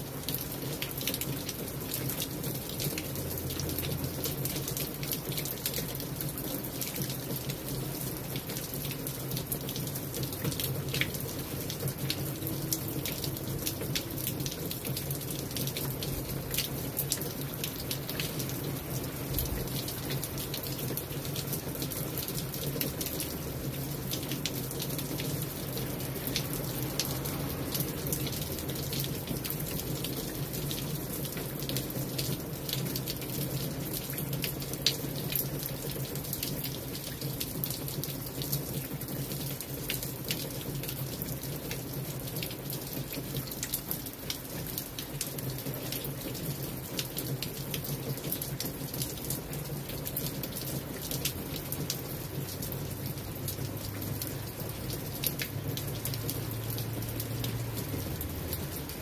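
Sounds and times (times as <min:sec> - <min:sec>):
raindrops ticking: 0:00.0 - 0:59.0
steady rainfall: 0:00.0 - 0:59.0.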